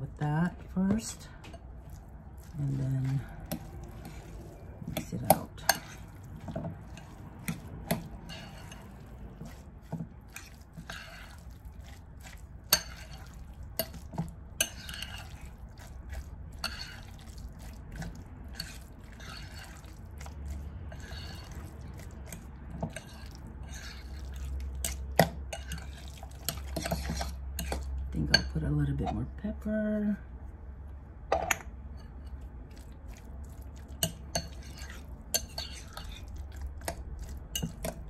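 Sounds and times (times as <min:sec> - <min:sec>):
wet squelching of stirring: 0:00.0 - 0:29.3, 0:31.9 - 0:38.0.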